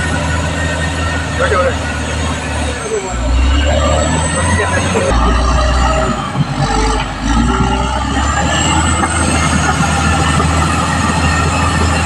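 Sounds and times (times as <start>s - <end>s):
bulldozer diesel engine under load: 0.0s - 12.0s.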